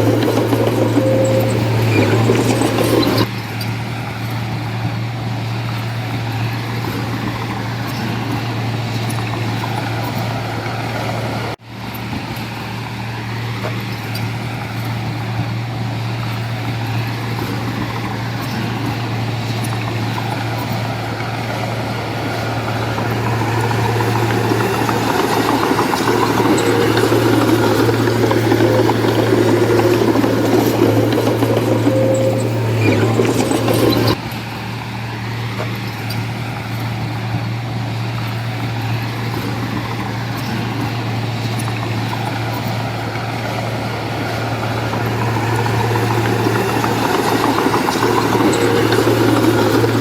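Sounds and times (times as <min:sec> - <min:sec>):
diesel machinery engine running: 0:00.0 - 0:50.0.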